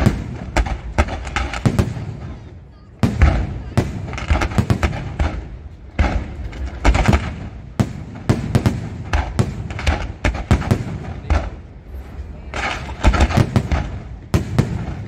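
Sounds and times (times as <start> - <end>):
steady rush of noise: 0.0 - 14.4.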